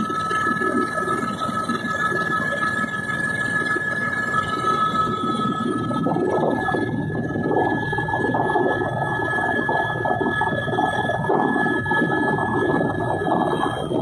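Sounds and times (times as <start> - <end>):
helicopter turbine whine: 0.0 - 14.0.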